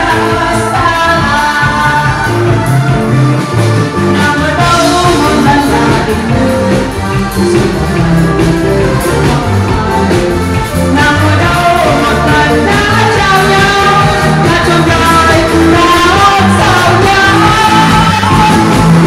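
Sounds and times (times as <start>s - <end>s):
upbeat dance music with singing: 0.0s - 3.3s, 3.9s - 19.0s.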